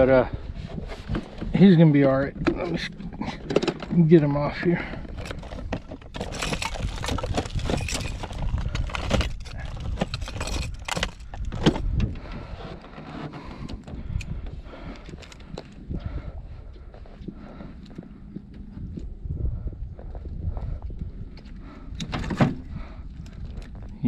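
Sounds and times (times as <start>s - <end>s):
low wind rumble: 0.0s - 24.0s.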